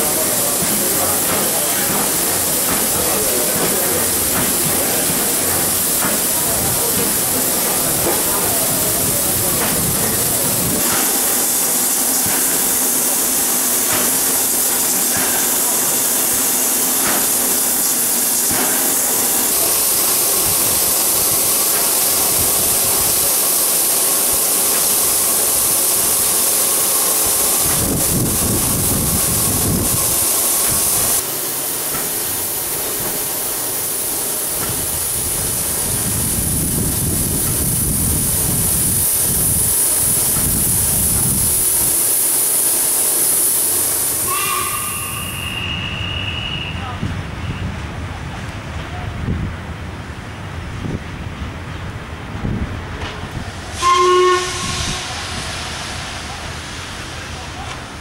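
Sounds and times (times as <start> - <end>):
loud high steam hiss: 0.0 - 58.0.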